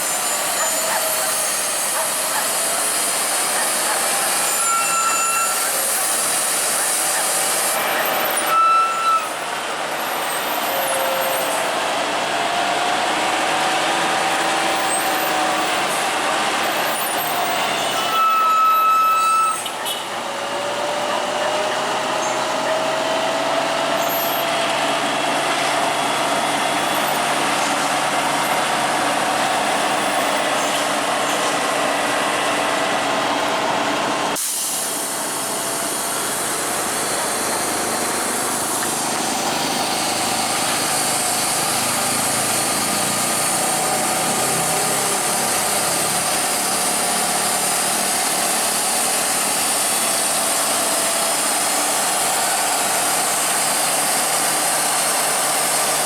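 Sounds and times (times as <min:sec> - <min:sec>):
heavy truck engine running: 0:00.0 - 0:56.0
road noise: 0:00.0 - 0:56.0.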